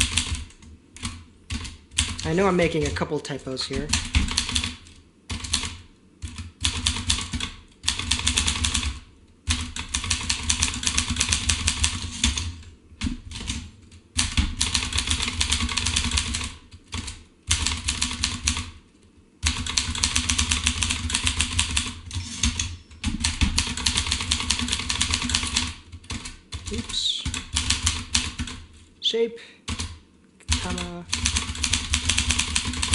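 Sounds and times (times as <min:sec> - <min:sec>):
manual typewriter typing: 0:00.0 - 0:03.0, 0:03.7 - 0:18.8, 0:19.4 - 0:28.6, 0:29.7 - 0:32.9.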